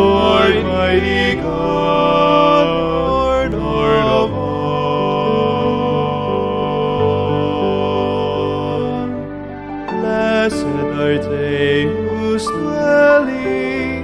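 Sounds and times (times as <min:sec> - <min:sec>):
man singing a slow hymn: 0:00.0 - 0:09.2, 0:09.9 - 0:14.0
sustained instrumental accompaniment: 0:00.0 - 0:14.0.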